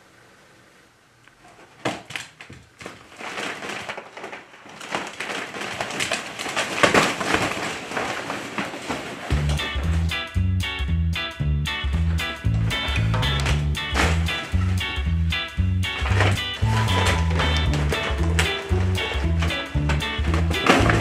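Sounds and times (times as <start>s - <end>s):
inflatable plastic toys crackling: 1.4s - 10.4s, 12.0s - 21.0s.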